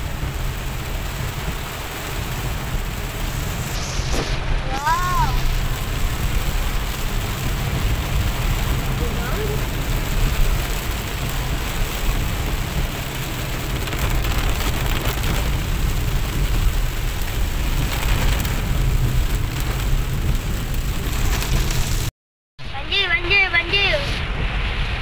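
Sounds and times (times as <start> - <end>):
heavy rain on car roof: 0.0 - 22.1, 22.7 - 25.0
car low rumble: 0.0 - 25.0.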